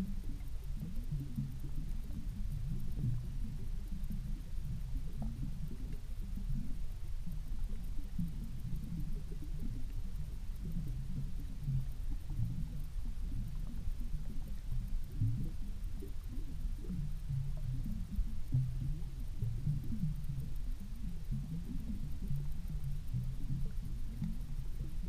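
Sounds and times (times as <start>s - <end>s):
low underwater rumble: 0.0s - 25.0s.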